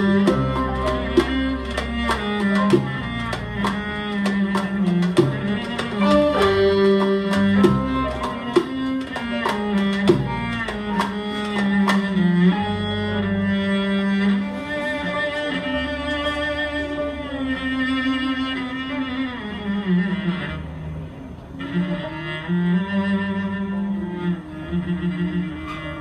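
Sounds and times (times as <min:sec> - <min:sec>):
cello solo: 0:00.0 - 0:26.0
string ensemble accompanying: 0:00.0 - 0:26.0.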